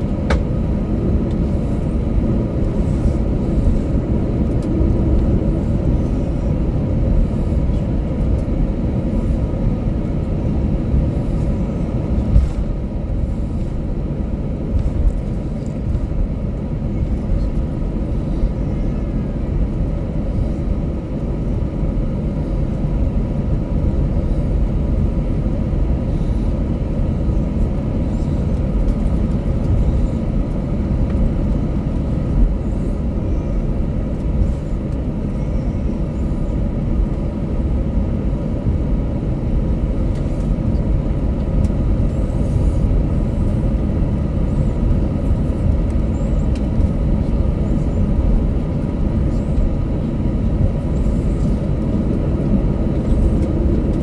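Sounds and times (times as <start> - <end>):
low rumble of aircraft cabin: 0.0 - 54.0.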